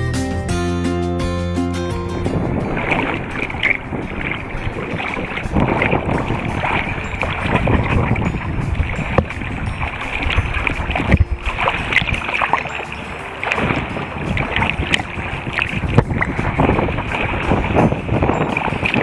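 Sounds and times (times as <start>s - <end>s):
seawater splashing: 1.8s - 19.0s
wind buffeting microphone: 1.9s - 19.0s.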